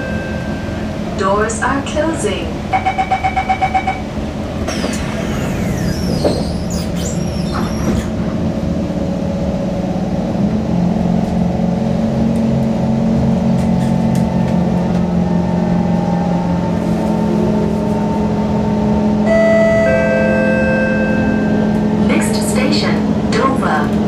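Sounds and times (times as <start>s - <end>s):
train doors closing: 0.0s - 10.4s, 11.0s - 24.0s
electric train motors humming: 0.0s - 24.0s.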